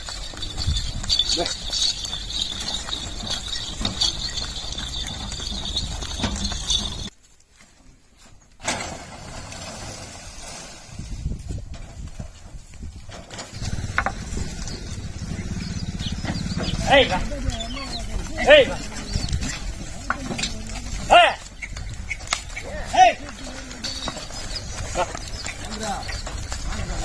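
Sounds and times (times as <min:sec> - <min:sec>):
cart rattling and rumbling: 0:00.0 - 0:07.1, 0:08.6 - 0:27.0
hoofbeats: 0:00.0 - 0:08.6, 0:11.5 - 0:27.0.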